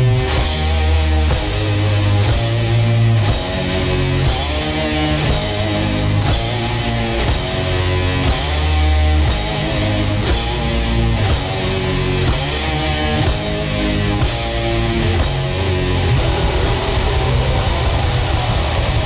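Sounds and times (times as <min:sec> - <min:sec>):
heavy distorted rock band: 0:00.0 - 0:19.0.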